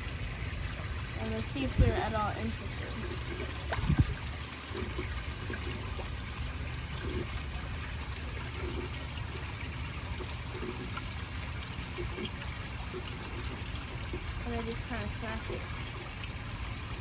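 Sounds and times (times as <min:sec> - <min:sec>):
low steady hum: 0:00.0 - 0:17.0
water trickling into pond: 0:00.0 - 0:17.0.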